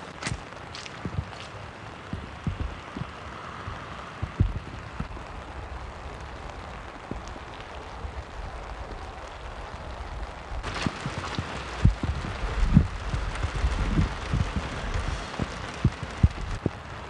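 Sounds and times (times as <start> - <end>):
wind buffeting microphone: 0.0 - 17.0
strong wind rushing: 2.1 - 17.0.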